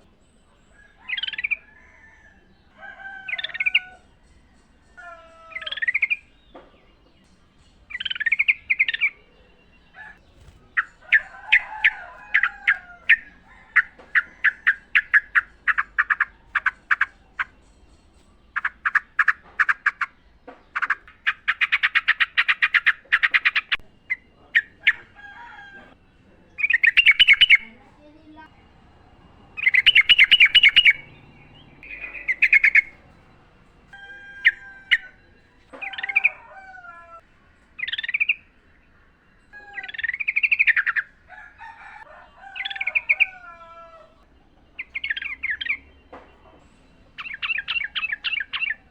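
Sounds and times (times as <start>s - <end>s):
bulbul song: 0.0s - 1.8s, 2.5s - 25.2s, 25.8s - 36.5s, 37.1s - 41.4s, 42.5s - 48.9s.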